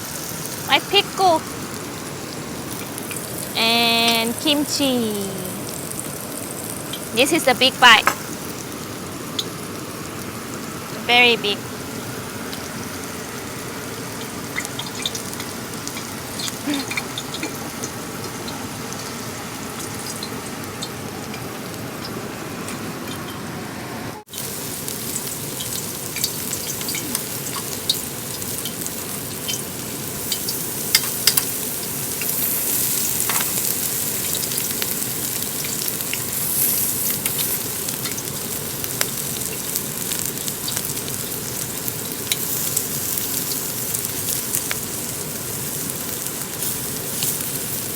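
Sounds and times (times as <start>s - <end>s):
meat sizzling on a grill: 0.0s - 47.9s.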